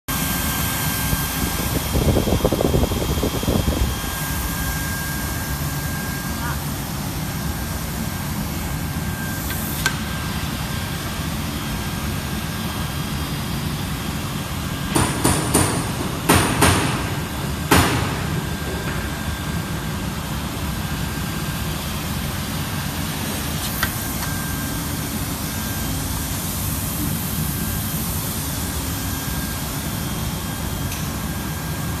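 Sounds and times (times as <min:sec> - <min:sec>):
hot-air blower rushing with whine: 0:00.1 - 0:32.0.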